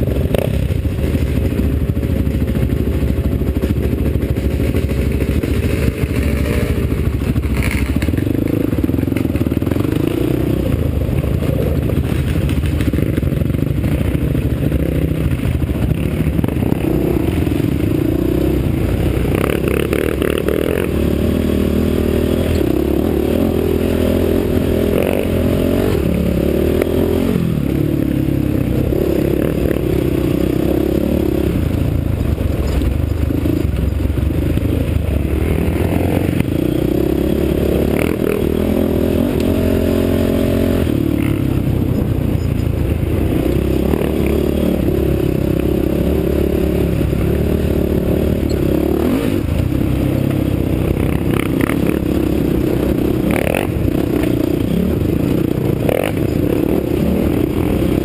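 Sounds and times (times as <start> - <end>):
quad engine under load: 0.0 - 58.0
rattle from rough ground: 0.0 - 58.0.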